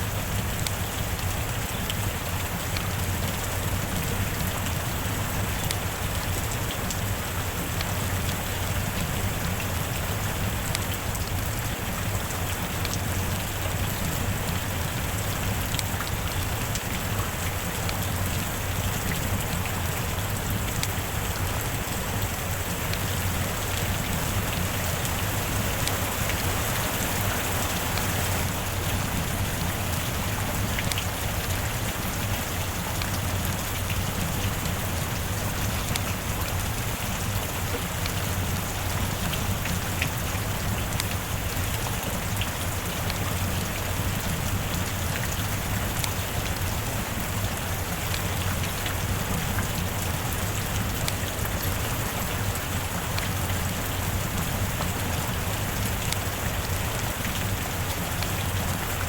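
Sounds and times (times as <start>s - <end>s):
steady rain hissing: 0.0s - 59.0s
raindrop ticks: 0.1s - 59.0s.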